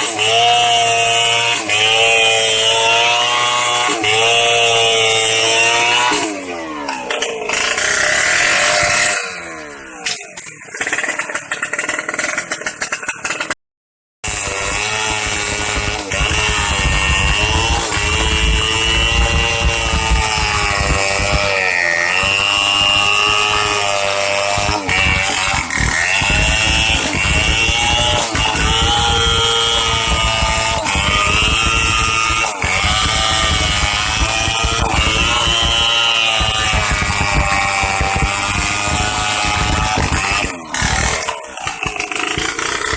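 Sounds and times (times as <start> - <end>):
chainsaw ripping timber: 0.0 - 13.6, 14.2 - 42.9.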